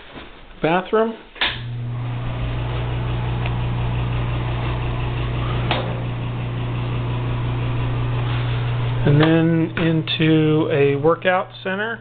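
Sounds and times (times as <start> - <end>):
exhaust fan humming: 1.5 - 12.0.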